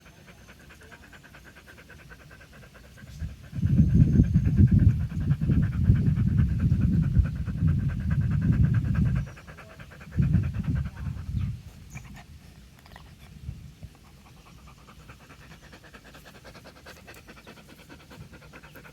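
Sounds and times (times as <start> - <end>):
dog panting fast: 0.0 - 18.9.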